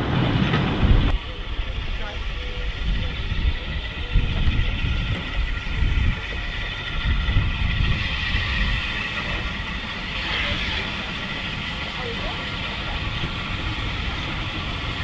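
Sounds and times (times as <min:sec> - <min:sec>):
steam hiss: 0:00.0 - 0:15.0
steam locomotive rumble: 0:00.0 - 0:15.0.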